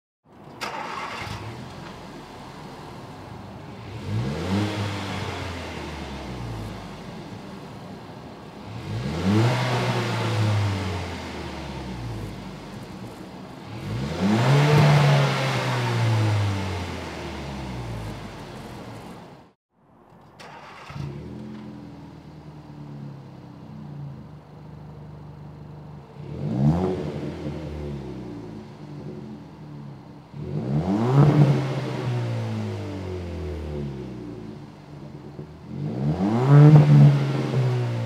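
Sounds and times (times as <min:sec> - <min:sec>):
car engine idling and revving: 0:00.3 - 0:19.6, 0:20.4 - 0:38.0.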